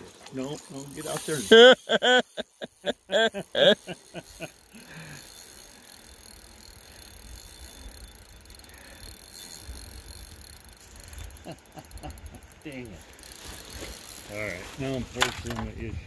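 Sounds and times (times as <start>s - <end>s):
fishing reel ratcheting: 0.4s - 14.6s.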